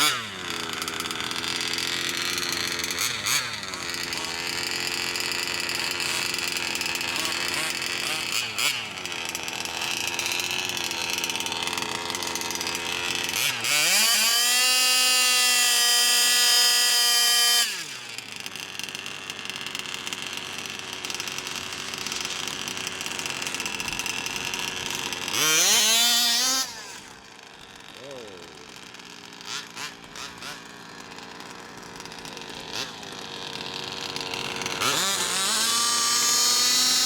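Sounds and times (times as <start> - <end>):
radio-controlled car motor whine: 0.0 - 37.0.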